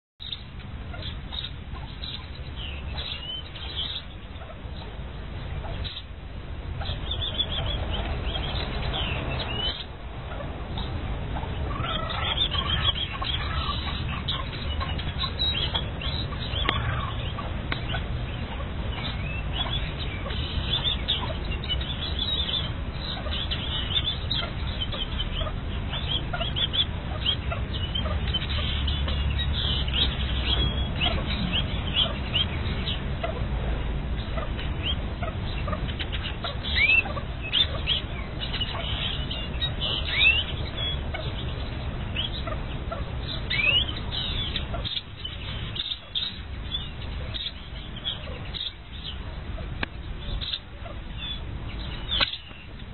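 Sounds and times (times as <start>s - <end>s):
partridge calling: 0.2s - 33.6s, 34.2s - 52.9s.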